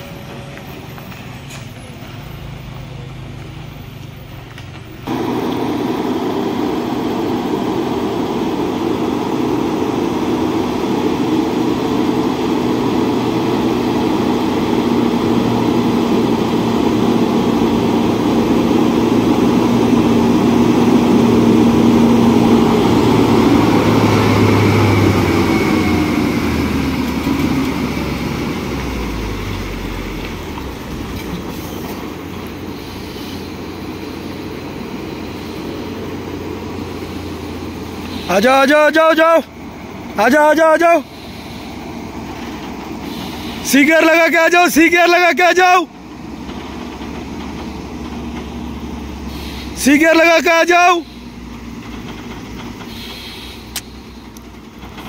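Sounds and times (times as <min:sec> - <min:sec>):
diesel truck passing by: 0:00.0 - 0:55.0.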